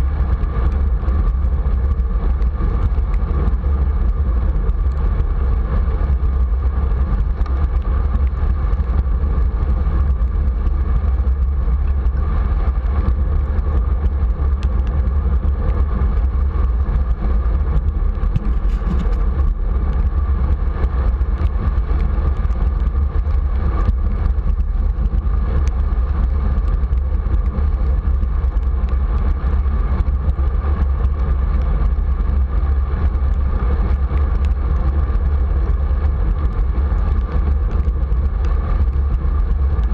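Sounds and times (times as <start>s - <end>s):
bicycle tyres on wet pavement: 0.0s - 39.9s
wind rushing over microphone: 0.0s - 39.9s.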